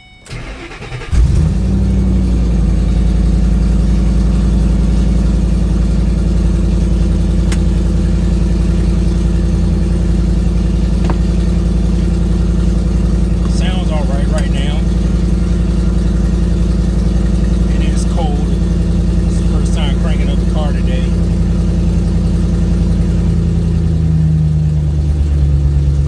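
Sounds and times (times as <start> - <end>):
car engine cranking and starting: 0.0 - 26.0
car engine idling with misfire: 0.0 - 26.0.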